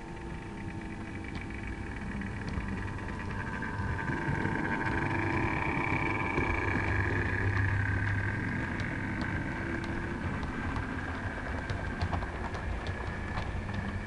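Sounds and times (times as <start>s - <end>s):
model train motor whine: 0.0s - 14.0s
faint ticks: 0.1s - 14.0s.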